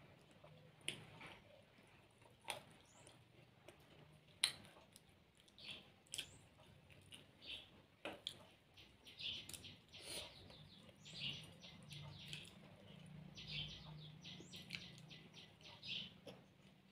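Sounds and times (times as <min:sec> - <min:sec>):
person chewing food: 0:00.0 - 0:16.9.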